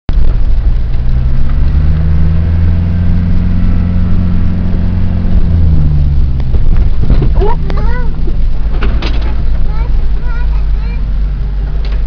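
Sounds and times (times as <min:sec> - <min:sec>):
vehicle engine running at low revs: 0:00.1 - 0:12.0.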